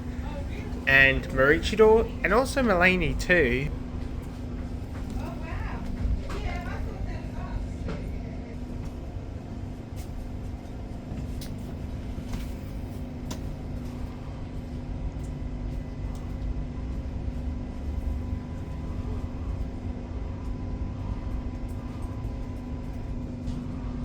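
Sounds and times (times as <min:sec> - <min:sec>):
constant hum: 0:00.0 - 0:24.0
train interior rumble: 0:00.0 - 0:24.0.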